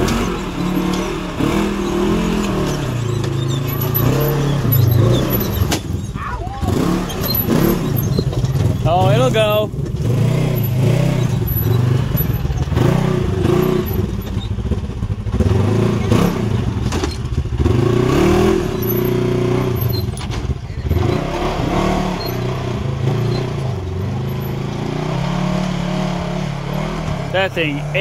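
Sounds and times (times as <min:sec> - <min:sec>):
engine revving in throttle blips: 0:00.0 - 0:28.0.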